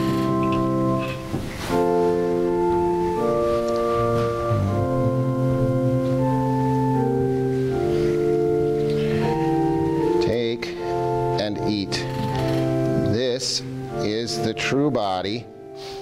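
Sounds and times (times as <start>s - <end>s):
organ playing held chords: 0.0s - 16.0s.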